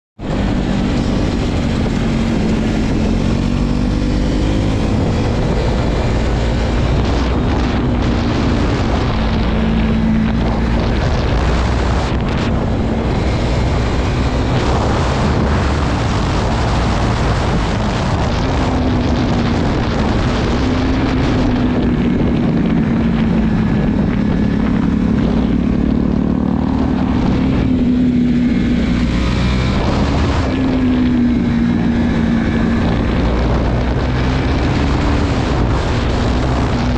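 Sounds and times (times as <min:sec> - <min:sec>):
motorcycle engine running: 0:00.2 - 0:36.9
wind on microphone: 0:00.2 - 0:36.9.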